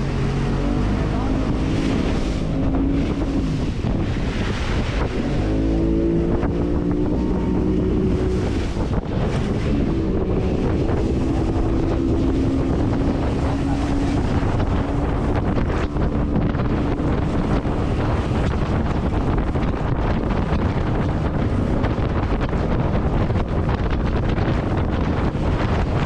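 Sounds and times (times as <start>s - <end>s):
outboard motor running: 0.0s - 26.0s
surf washing around hull: 0.0s - 26.0s
wind buffeting microphone: 0.0s - 26.0s.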